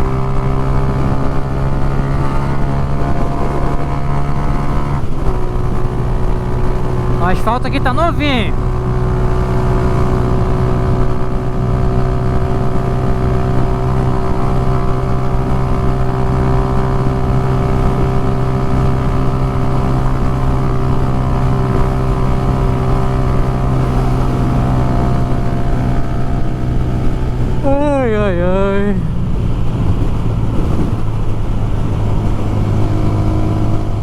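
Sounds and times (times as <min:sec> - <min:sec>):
motorcycle engine cruising: 0:00.0 - 0:34.0
wind rushing over microphone: 0:00.0 - 0:34.0.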